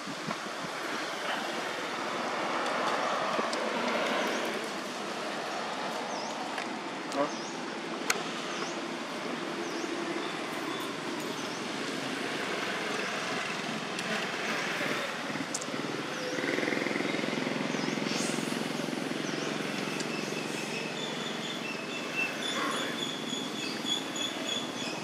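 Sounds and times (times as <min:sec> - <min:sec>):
rushing outdoor background noise: 0:00.0 - 0:25.0.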